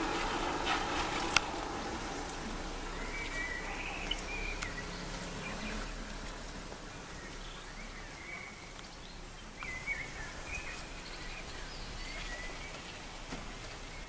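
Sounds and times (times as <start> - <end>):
distant bird chirping: 0.0 - 14.0
steady hiss with ticks: 0.0 - 14.0.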